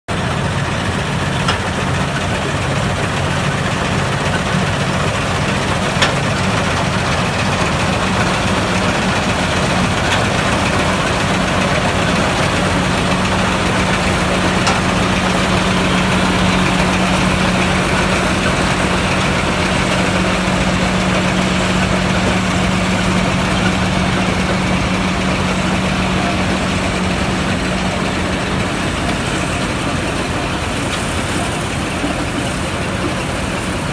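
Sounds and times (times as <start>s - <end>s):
harvester machinery: 0.1s - 33.9s
tractor diesel engine running: 0.1s - 33.9s.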